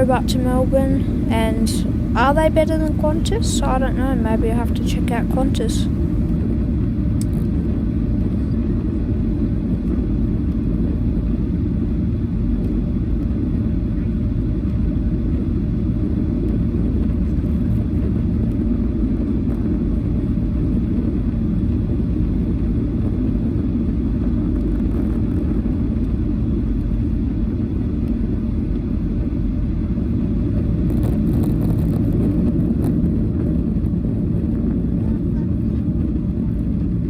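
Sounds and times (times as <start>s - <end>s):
airplane cabin engine rumble: 0.0s - 37.0s.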